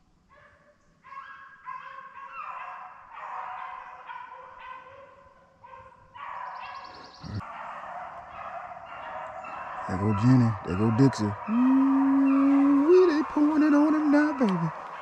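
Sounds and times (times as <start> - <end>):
dogs baying: 1.1 - 15.0.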